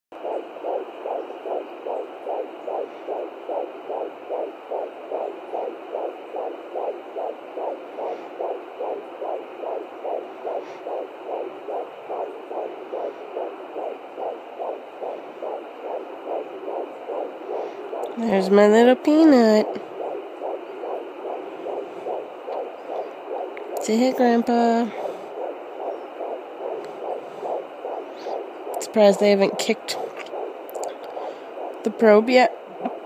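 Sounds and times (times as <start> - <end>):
fetal heartbeat on doppler speaker: 0.1 - 33.0.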